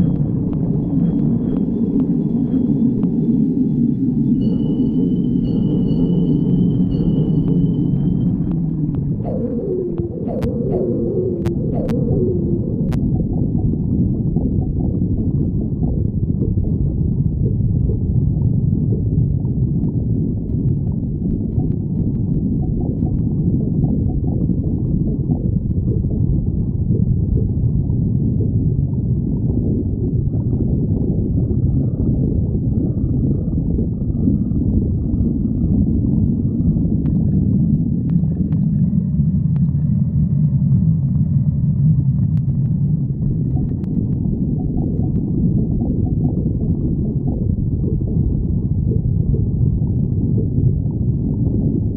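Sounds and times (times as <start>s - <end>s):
stomach growling: 7.4s - 51.9s.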